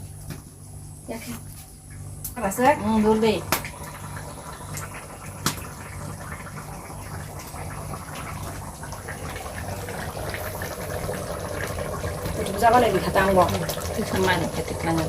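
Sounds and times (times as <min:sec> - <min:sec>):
water pouring into a pot: 0:02.4 - 0:15.0.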